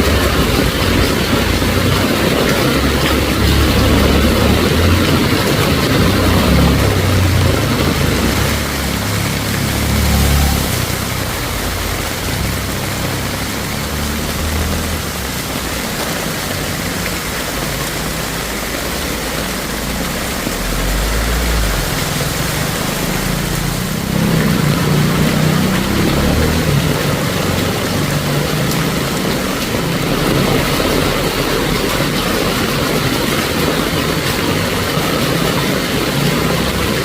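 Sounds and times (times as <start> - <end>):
heavy rain hissing: 0.0 - 37.0
vehicle engines running: 0.0 - 37.0.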